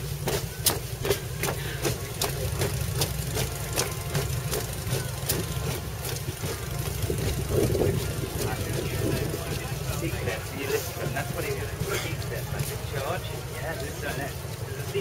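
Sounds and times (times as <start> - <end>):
low engine rumble: 0.0 - 15.0
marching boots on road: 0.0 - 15.0.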